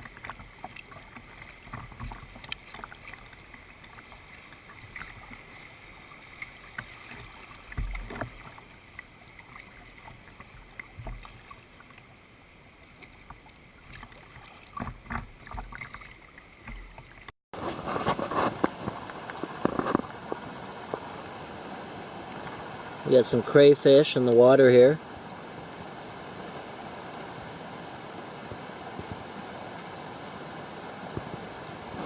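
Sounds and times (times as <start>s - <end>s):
paddle dipping and dripping water: 0.0s - 17.3s, 18.2s - 32.0s.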